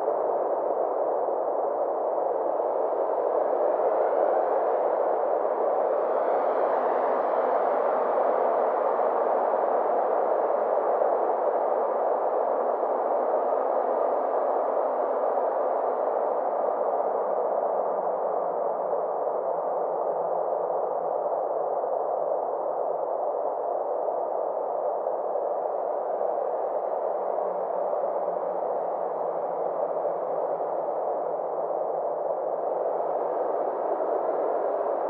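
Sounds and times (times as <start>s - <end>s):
faint hum: 0.0s - 35.0s.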